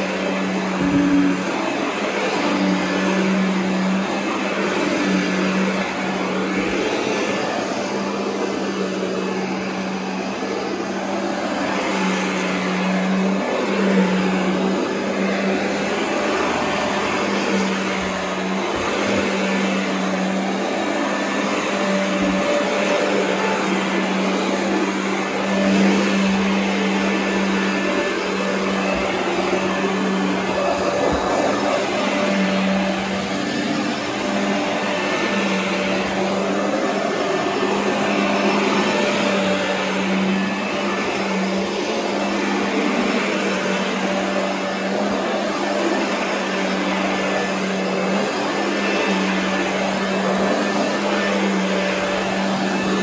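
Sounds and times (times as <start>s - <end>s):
vacuum cleaner on carpet: 0.0s - 53.0s.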